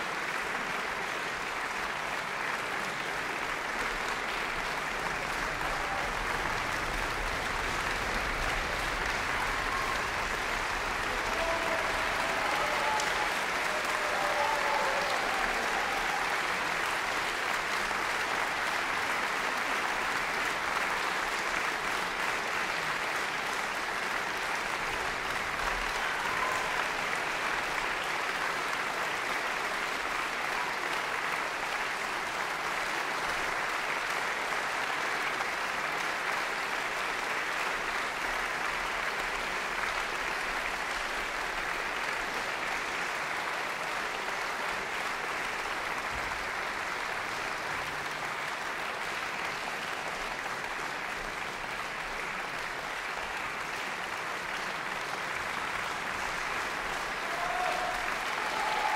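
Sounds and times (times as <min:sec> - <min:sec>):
audience applauding: 0:00.0 - 0:58.9.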